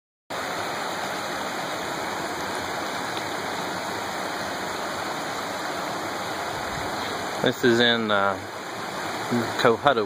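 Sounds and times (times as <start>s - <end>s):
stream rushing over stones: 0.3s - 10.0s.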